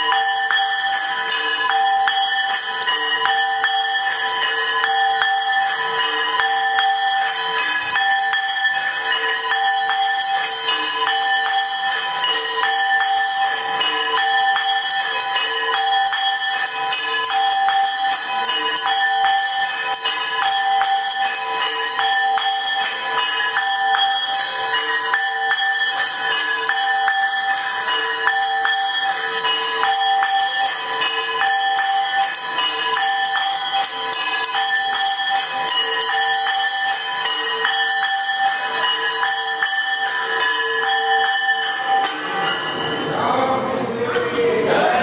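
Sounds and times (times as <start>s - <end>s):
temple bells ringing: 0.0s - 45.0s.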